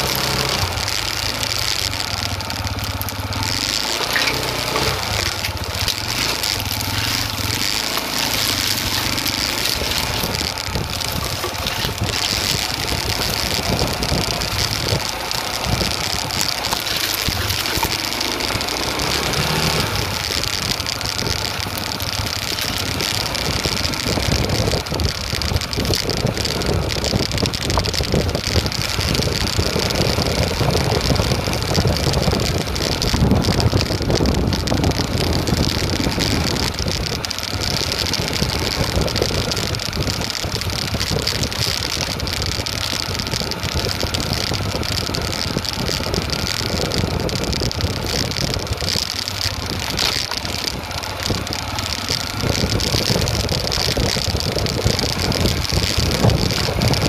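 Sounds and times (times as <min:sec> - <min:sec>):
clatter and knocks: 0:00.0 - 0:57.0
motorcycle engine at low speed: 0:00.0 - 0:57.0.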